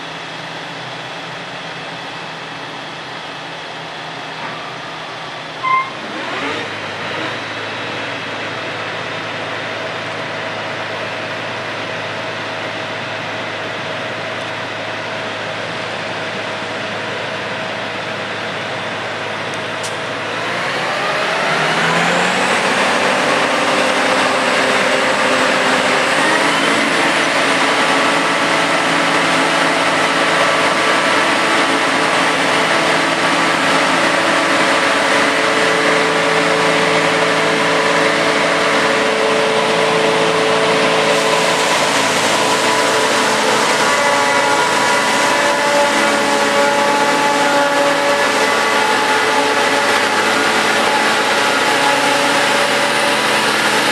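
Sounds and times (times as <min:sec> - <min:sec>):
forage harvester machine drone: 0:00.0 - 0:53.9.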